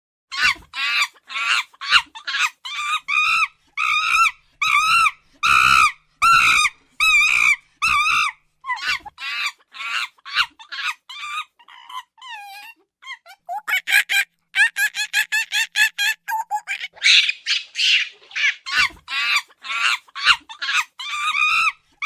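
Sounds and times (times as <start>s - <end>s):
monkey screeching: 0.3s - 21.8s.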